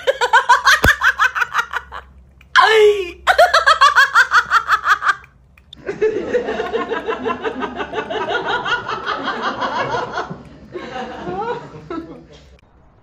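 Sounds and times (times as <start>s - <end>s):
person laughing in pulses: 0.0s - 12.6s.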